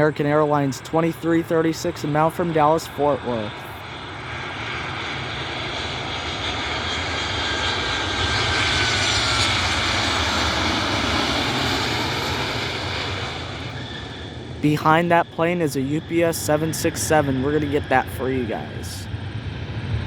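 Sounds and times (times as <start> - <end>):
jet airliner passing by: 0.0 - 20.0.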